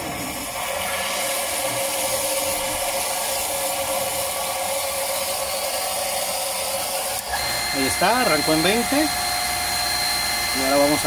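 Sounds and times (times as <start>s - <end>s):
water rushing from valve: 0.0s - 11.0s.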